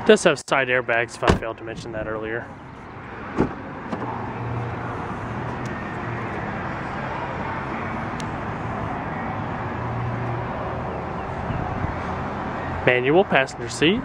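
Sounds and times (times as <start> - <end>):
motor vehicle rumble: 1.2 - 12.9.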